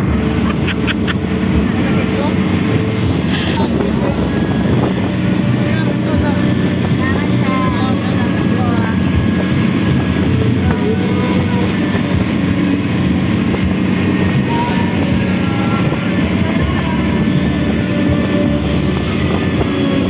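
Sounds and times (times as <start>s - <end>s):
boat engine running: 0.0s - 20.0s
water splashing against hull: 0.0s - 20.0s.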